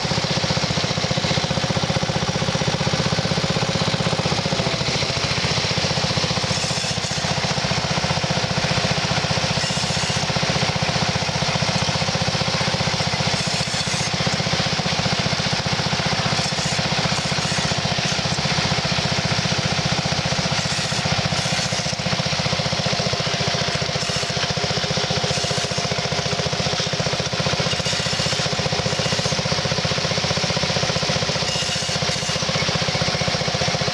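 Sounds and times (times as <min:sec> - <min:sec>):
small tractor engine running: 0:00.0 - 0:33.9.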